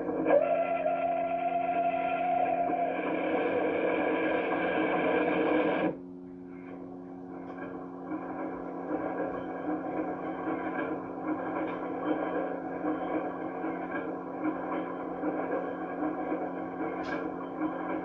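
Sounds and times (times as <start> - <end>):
constant low hum: 0.0 - 18.0
film soundtrack through tv speaker: 0.0 - 18.0.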